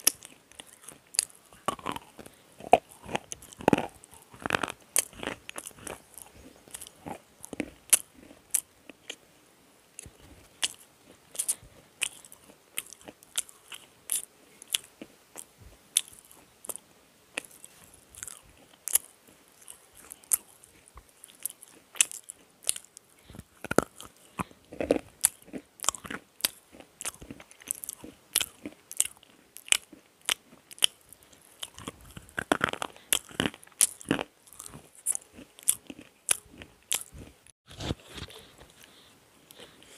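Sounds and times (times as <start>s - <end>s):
slate crunching between teeth: 0.0s - 9.2s, 10.0s - 16.8s, 17.4s - 39.9s.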